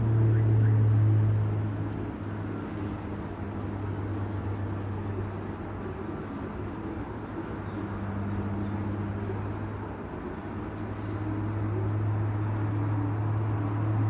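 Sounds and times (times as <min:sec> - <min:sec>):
airplane engine droning overhead: 0:00.0 - 0:14.0.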